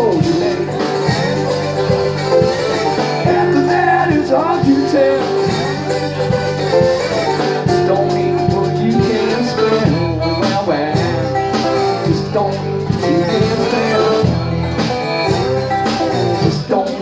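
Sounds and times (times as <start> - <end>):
accordion melody: 0.0 - 17.0
strummed guitar: 0.0 - 17.0.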